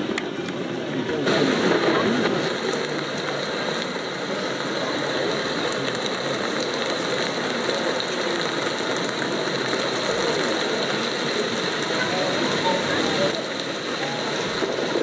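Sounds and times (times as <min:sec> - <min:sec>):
exhibition hall background noise: 0:00.0 - 0:15.0.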